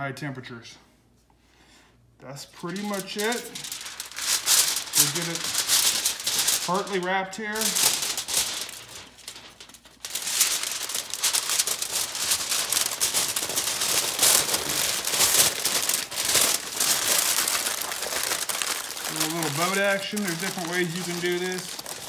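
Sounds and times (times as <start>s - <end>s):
aluminium foil crinkling: 2.6s - 22.0s.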